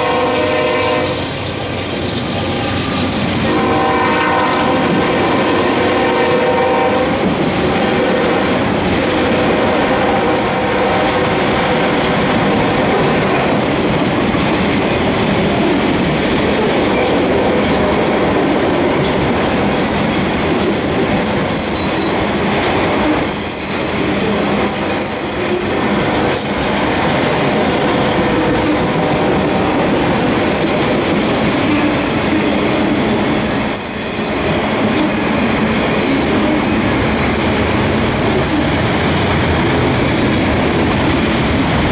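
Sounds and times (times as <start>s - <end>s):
freight train wheels clattering: 6.6s - 41.9s.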